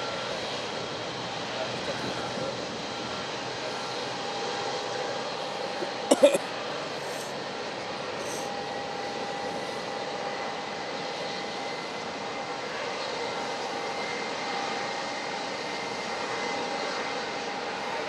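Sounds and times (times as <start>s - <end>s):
jet engines running: 0.0s - 18.0s
thin steady engine whine: 0.0s - 18.0s.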